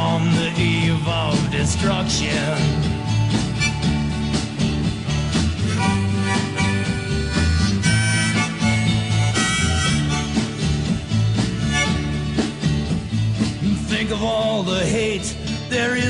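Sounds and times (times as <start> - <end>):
harmonica melody: 0.0 - 13.0
folk-rock band accompaniment: 0.0 - 16.0.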